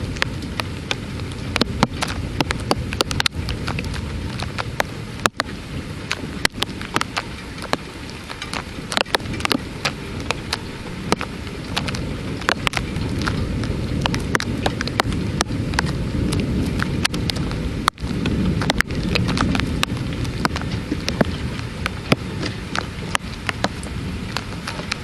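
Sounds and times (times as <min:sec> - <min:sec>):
heavy rain downpour: 0:00.0 - 0:25.0.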